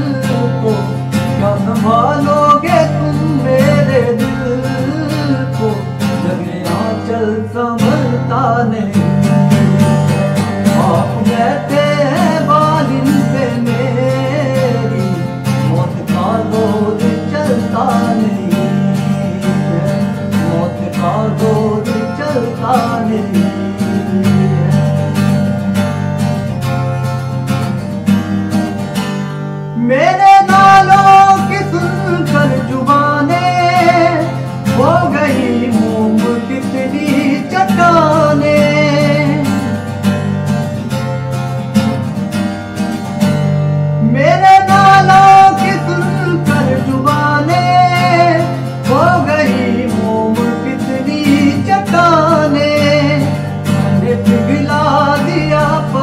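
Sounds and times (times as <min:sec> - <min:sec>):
man singing ornamented phrases: 0:00.0 - 0:25.3, 0:29.8 - 0:39.9, 0:44.0 - 0:56.0
acoustic guitar strumming: 0:00.0 - 0:56.0.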